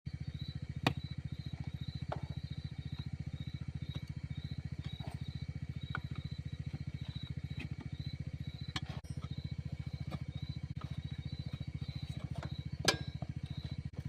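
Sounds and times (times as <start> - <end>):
small engine thudding: 0.1 - 14.0.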